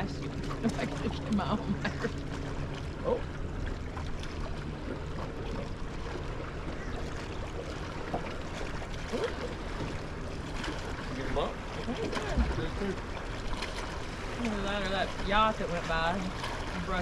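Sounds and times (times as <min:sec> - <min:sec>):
boat motor humming: 0:00.0 - 0:17.0
water noise: 0:00.0 - 0:17.0
wind: 0:00.0 - 0:17.0.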